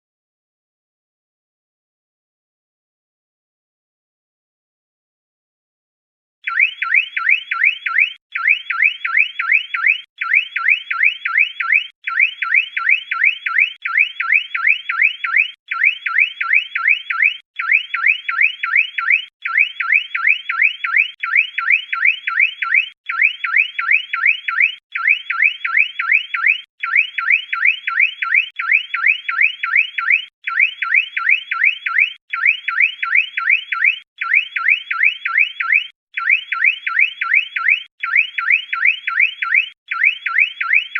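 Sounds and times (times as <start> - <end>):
car alarm siren warbling: 6.4 - 40.9.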